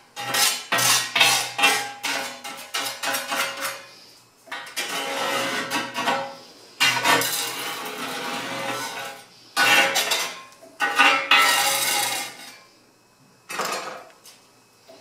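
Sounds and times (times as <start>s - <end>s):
metal spatula scraping metal: 0.2s - 12.6s.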